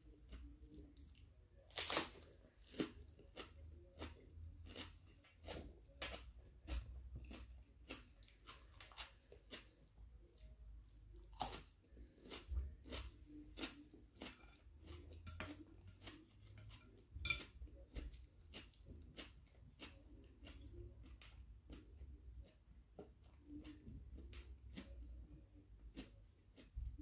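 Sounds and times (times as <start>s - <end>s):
chewing crisp raw vegetables: 0.0s - 27.0s.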